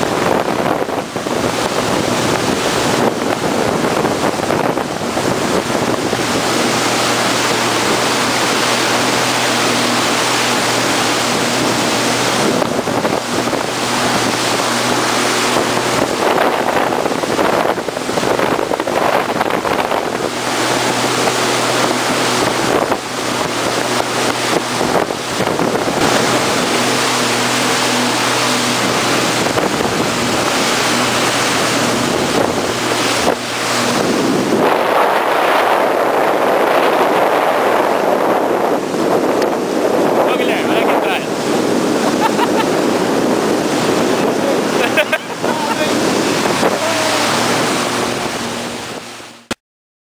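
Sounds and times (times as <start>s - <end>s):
wind buffeting microphone: 0.0s - 49.5s
jet ski engine running: 0.0s - 49.6s
rushing water: 0.0s - 49.6s.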